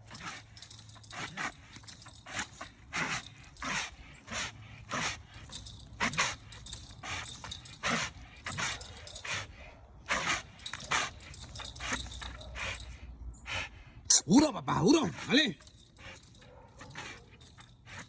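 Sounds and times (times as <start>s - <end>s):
dog huffing breaths: 0.0s - 14.1s, 15.0s - 18.0s.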